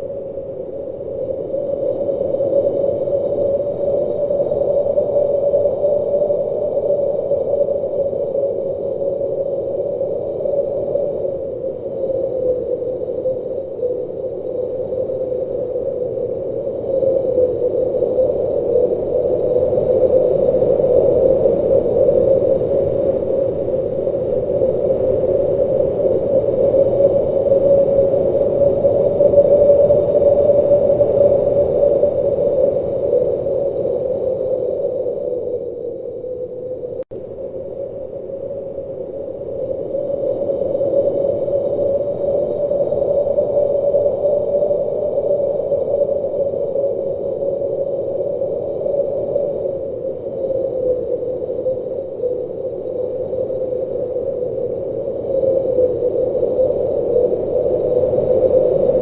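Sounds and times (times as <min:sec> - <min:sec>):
blizzard wind blowing: 0:00.0 - 0:59.0.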